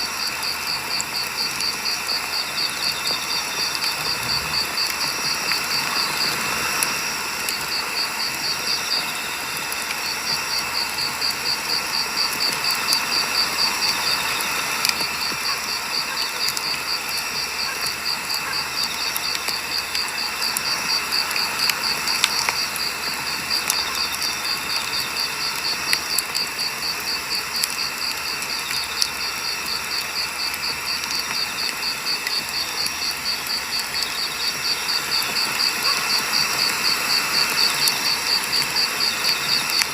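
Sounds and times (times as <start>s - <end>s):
cricket chirping: 0.0s - 39.9s
firewood burning and crackling: 0.0s - 39.9s.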